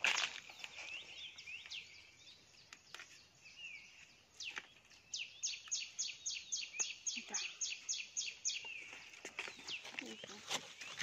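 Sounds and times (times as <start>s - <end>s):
high bird chirps: 0.1s - 11.0s.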